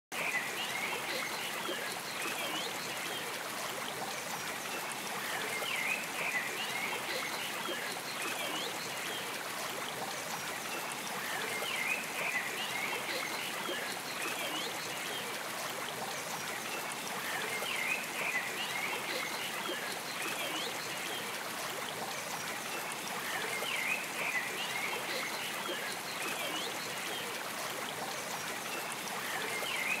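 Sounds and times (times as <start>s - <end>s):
running water trickling: 0.2s - 30.0s.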